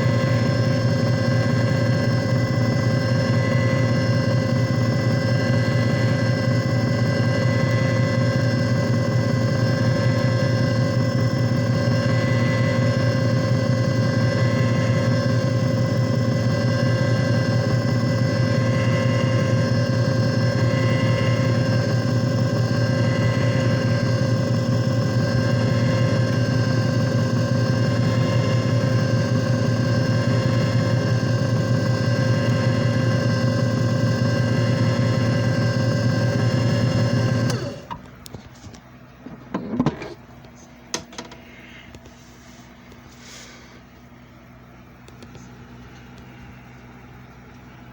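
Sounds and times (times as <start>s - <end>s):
machine motor hum: 0.0s - 47.9s.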